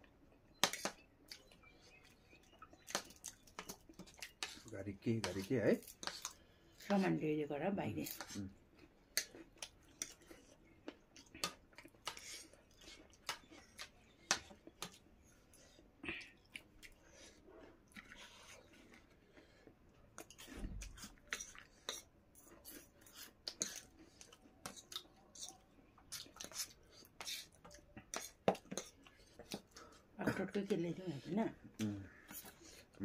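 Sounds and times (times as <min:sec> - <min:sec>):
chewing food: 0:00.5 - 0:07.0, 0:08.0 - 0:33.0.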